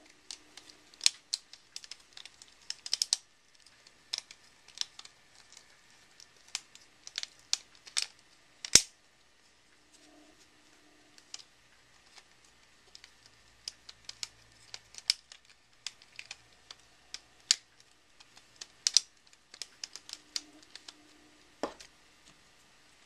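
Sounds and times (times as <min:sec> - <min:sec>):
plastic puzzle segments clicking: 0:00.2 - 0:08.9, 0:11.2 - 0:21.2.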